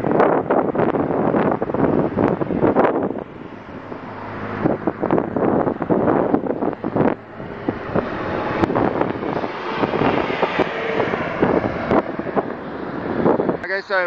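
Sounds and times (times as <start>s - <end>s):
passing road traffic: 0.0s - 14.0s
wind buffeting microphone: 0.0s - 14.0s.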